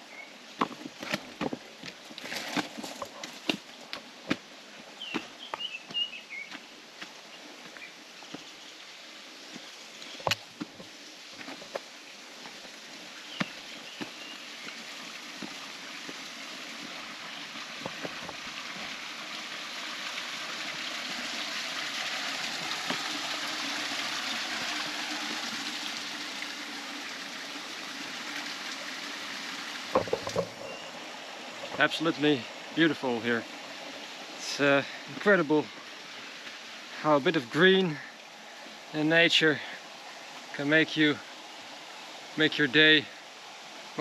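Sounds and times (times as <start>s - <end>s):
stream flowing over rocks: 0.0s - 44.0s.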